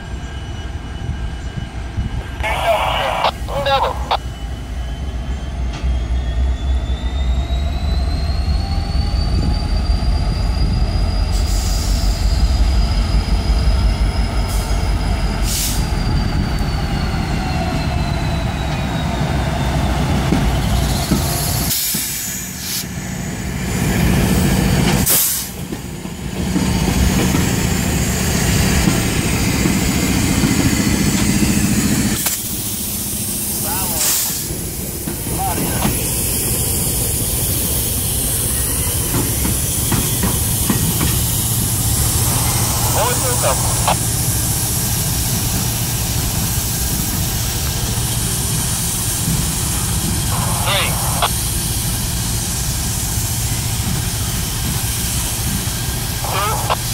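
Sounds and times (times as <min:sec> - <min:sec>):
diesel locomotive engines humming: 0:00.0 - 0:56.9.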